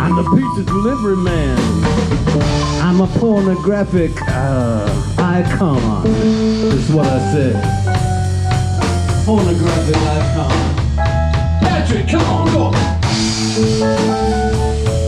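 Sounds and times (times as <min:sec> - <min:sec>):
sliding bent guitar lead notes: 0:00.0 - 0:10.7, 0:12.8 - 0:15.0
live blues-rock band playing: 0:00.0 - 0:15.0.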